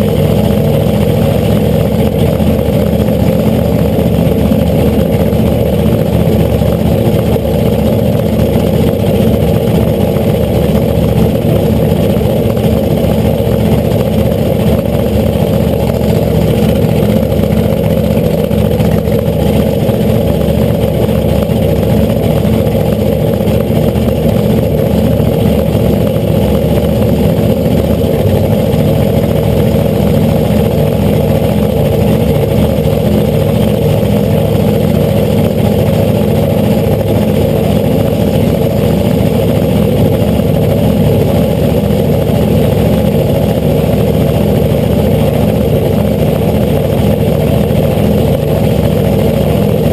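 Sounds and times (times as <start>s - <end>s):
supercharged engine idling loudly: 0.0s - 49.9s.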